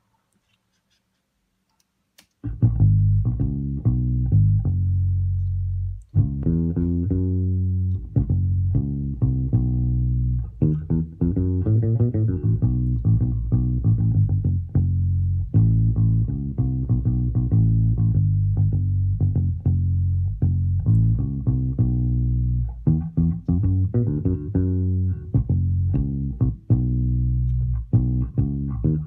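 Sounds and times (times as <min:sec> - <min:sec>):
muted electric bass line: 0:02.4 - 0:29.0.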